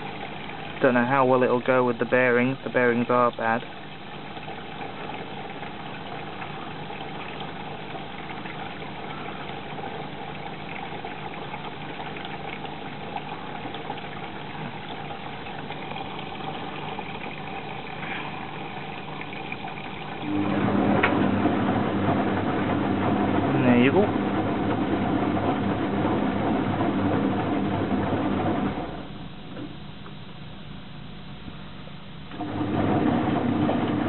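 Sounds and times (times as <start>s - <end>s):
washing machine running: 0.0s - 30.6s, 32.2s - 34.0s.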